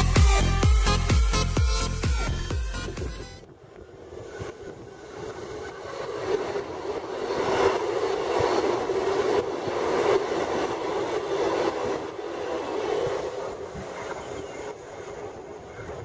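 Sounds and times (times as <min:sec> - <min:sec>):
electric train rushing past: 0:00.0 - 0:16.0.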